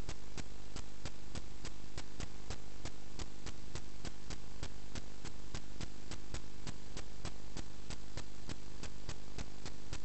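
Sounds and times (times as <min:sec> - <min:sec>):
sharp evenly spaced clicks: 0:00.0 - 0:10.0
steady electrical hum: 0:00.0 - 0:10.0.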